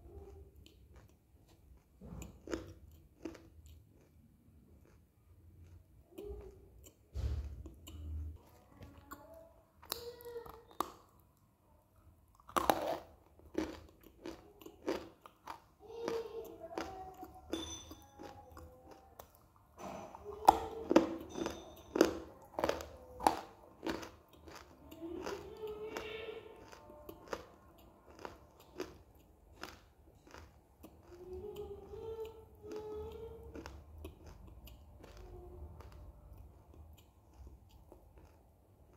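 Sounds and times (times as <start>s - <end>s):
crunching and chewing: 0.0s - 11.5s, 12.3s - 38.9s.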